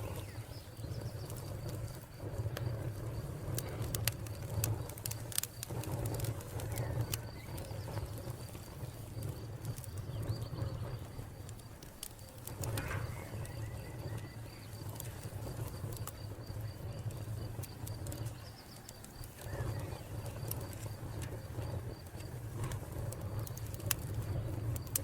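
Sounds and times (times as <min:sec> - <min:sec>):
cricket chirping: 0:00.0 - 0:25.0
wood fire crackling: 0:00.0 - 0:25.0.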